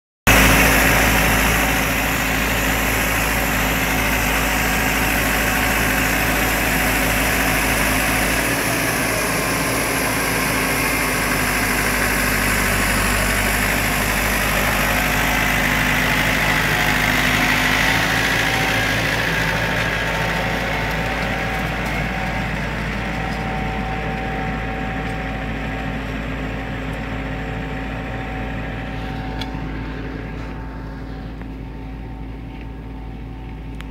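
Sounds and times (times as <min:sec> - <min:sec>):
tractor diesel engine running: 0:00.3 - 0:33.9.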